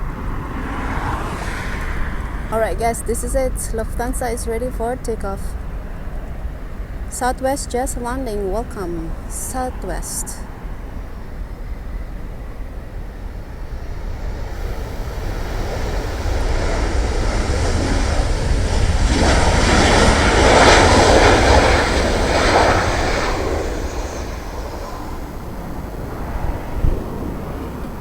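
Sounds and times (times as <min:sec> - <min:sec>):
jet engine passing by: 0:00.0 - 0:28.0
steady low rumble: 0:00.0 - 0:28.0.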